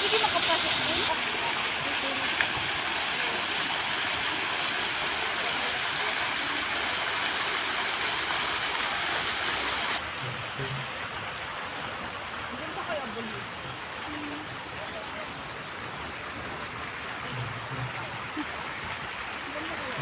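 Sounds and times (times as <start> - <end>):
fountain jets splashing on paving: 0.0 - 20.0.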